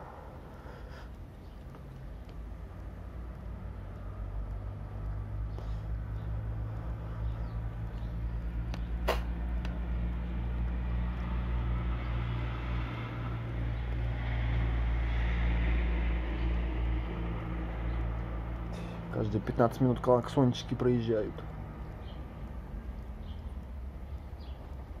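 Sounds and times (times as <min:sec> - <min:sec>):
low rumble of road traffic: 0:00.0 - 0:25.0
vehicle passing: 0:00.0 - 0:25.0.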